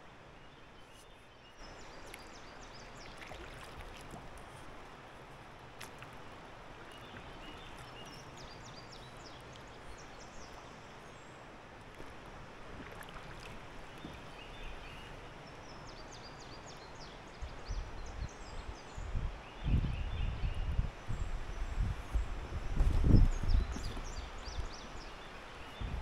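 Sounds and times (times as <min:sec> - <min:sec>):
songbirds chirping: 0:00.3 - 0:26.0.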